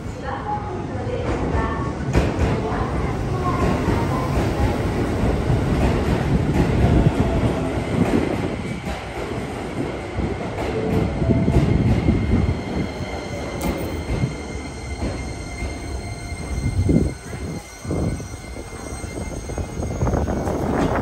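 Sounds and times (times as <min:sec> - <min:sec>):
train wheels rumbling: 0:01.1 - 0:21.0.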